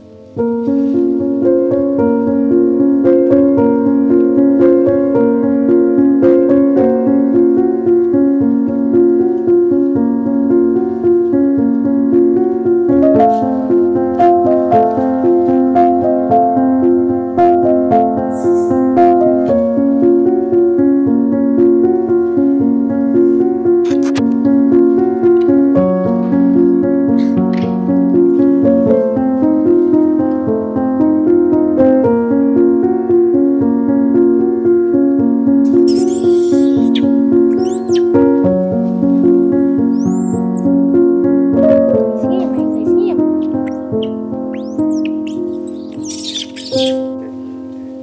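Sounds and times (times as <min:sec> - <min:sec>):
background piano music: 0:00.0 - 0:48.0.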